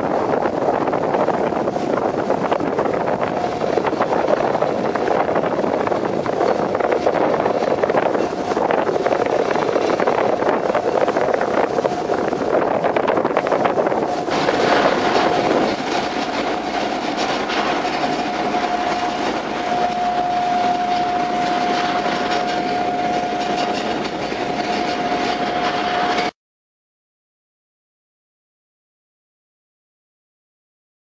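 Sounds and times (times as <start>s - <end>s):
ferry engine drone and rattle: 0.0s - 26.4s
steady whine: 0.0s - 26.4s.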